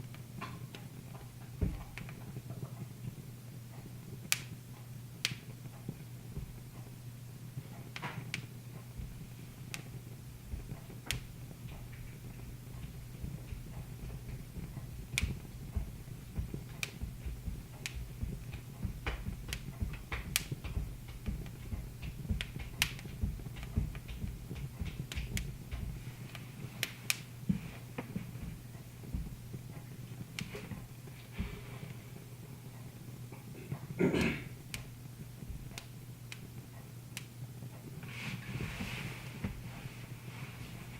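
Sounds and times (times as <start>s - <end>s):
low steady hum: 0.0s - 40.9s
wood fire crackling and popping: 0.0s - 40.9s.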